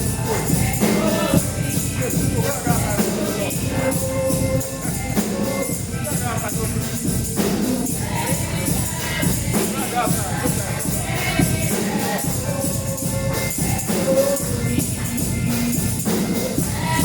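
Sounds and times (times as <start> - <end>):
tambourine shaken and struck: 0.0 - 17.0
voices singing together: 0.0 - 17.0.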